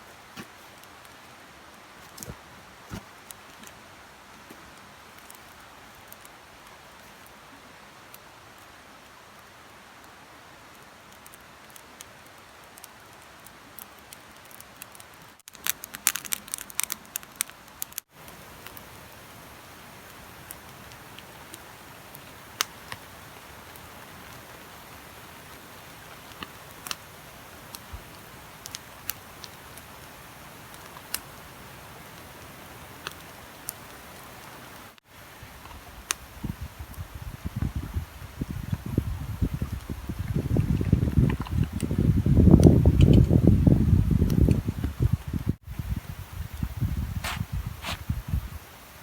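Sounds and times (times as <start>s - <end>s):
steady rain: 0.0s - 47.1s, 47.7s - 49.0s.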